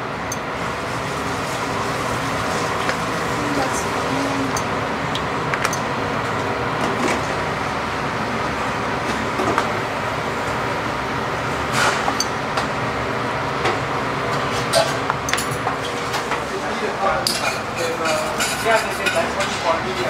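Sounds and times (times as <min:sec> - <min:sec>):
kitchen fans rushing: 0:00.0 - 0:20.0.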